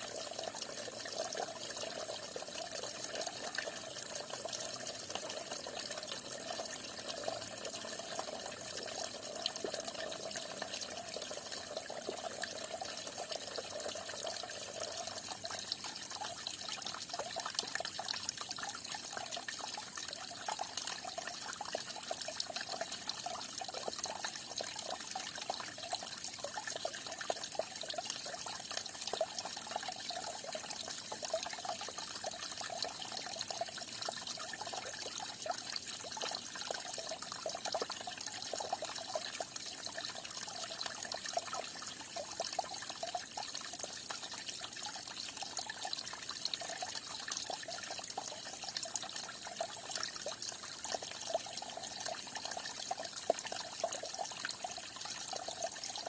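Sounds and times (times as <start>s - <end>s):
water splashing and trickling: 0.0s - 56.0s.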